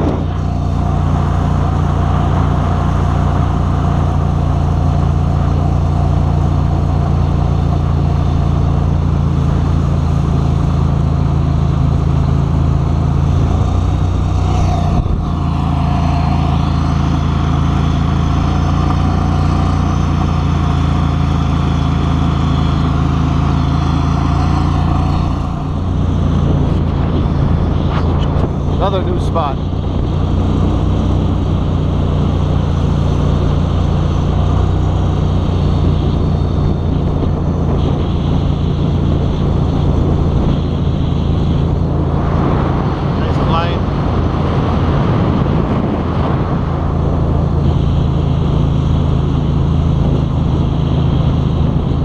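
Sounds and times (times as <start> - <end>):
boat motor running: 0.0 - 52.0.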